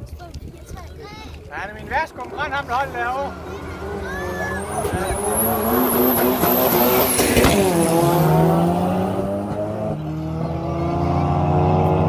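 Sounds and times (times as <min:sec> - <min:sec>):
cars accelerating at full throttle: 0:01.5 - 0:12.0.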